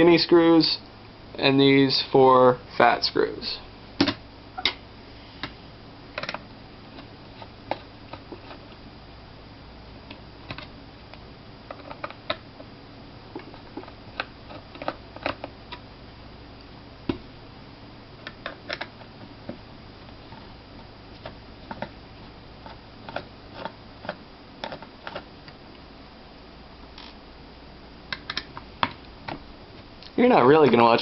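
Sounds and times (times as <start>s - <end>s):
low steady hiss: 0.0s - 31.0s.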